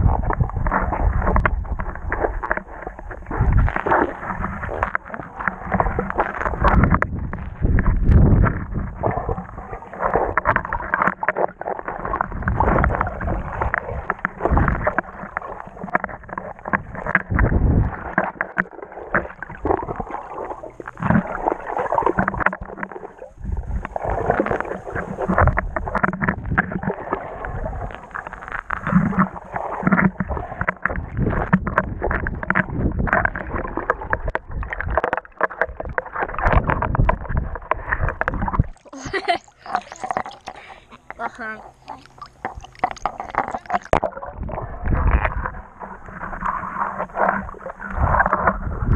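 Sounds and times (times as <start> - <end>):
muffled underwater river rushing: 0.0 - 48.9
underwater knocks and thumps: 0.0 - 48.9.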